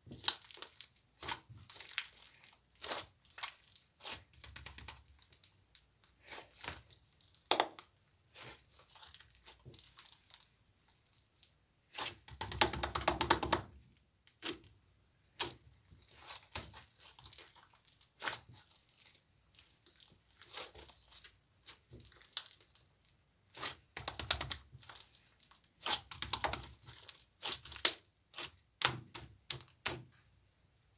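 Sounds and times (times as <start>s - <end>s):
material crinkling and tearing: 0.1s - 12.6s, 15.4s - 30.0s.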